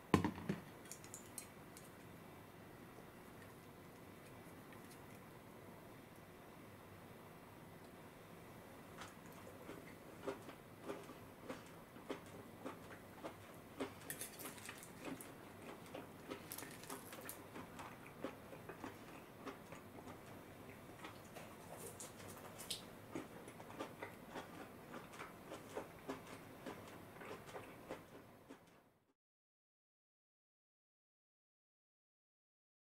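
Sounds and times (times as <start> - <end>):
chewing and crunching food: 0.7 - 6.5, 7.8 - 28.9.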